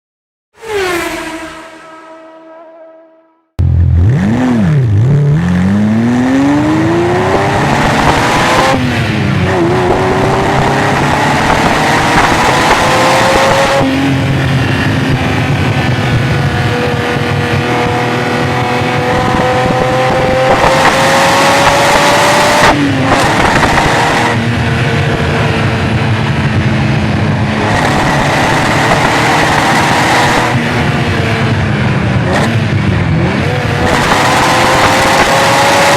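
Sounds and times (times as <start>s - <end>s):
sports car engine revving: 3.6s - 35.9s.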